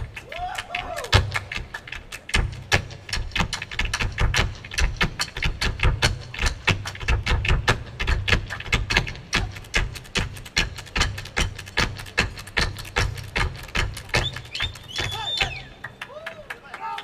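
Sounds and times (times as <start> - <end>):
claps and body slaps: 0.0 - 17.0.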